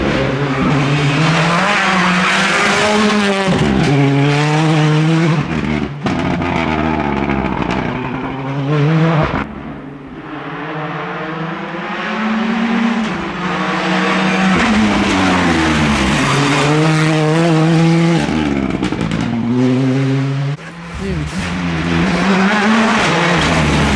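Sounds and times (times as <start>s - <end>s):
rally car engine revving: 0.0s - 23.9s.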